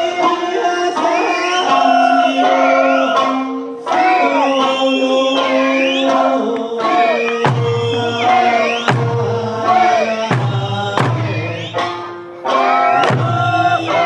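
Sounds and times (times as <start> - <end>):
held accompanying tones: 0.0 - 14.0
sung folk melody: 0.0 - 14.0.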